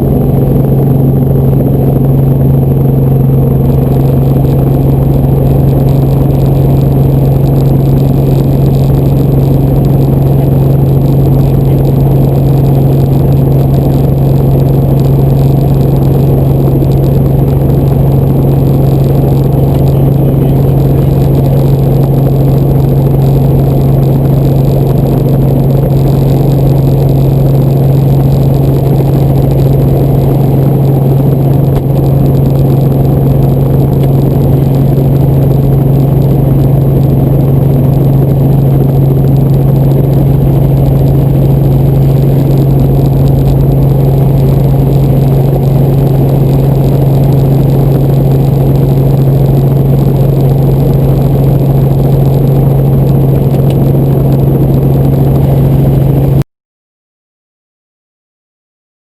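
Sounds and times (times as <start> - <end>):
helicopter drone: 0.0 - 56.4.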